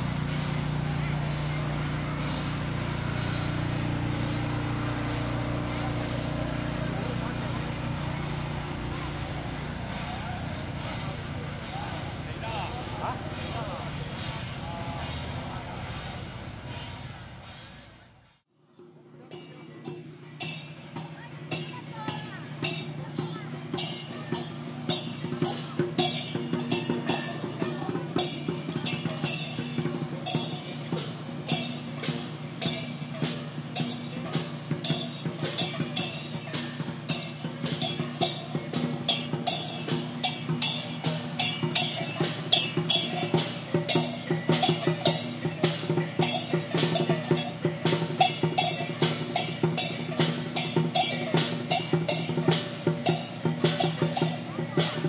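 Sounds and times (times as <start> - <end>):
cymbal crashes: 0.0 - 55.0
drums beating: 0.0 - 55.0
gongs: 0.0 - 55.0.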